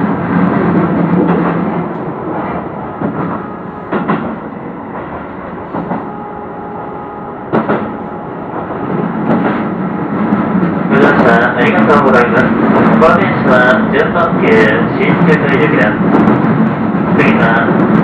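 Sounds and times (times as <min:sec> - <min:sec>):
electric train running rumble: 0:00.0 - 0:18.0.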